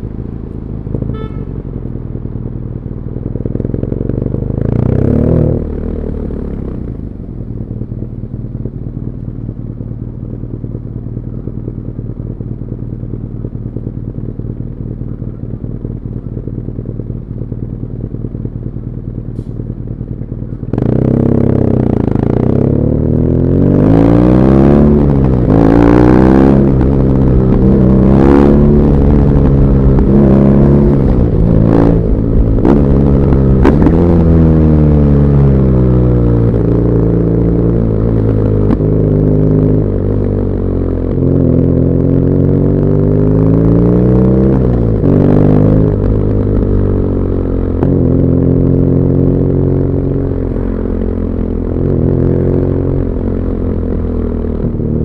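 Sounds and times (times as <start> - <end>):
motorcycle engine revving: 0.7 - 8.8, 10.5 - 55.0.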